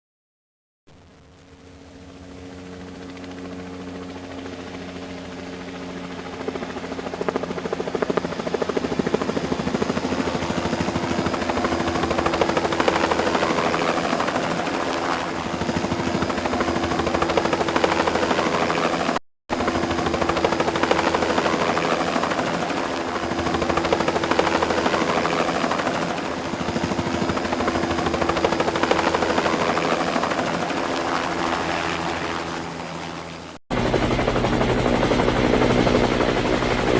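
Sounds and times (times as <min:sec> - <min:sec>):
helicopter rotor and engine: 0:01.1 - 0:36.9.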